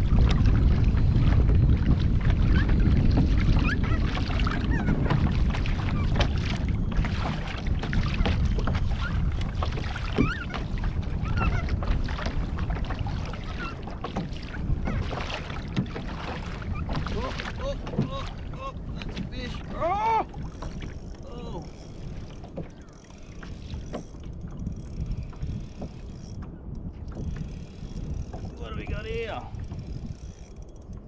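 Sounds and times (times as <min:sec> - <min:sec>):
water splashing around kayak: 0:00.0 - 0:31.0
wind buffeting microphone: 0:00.0 - 0:31.0.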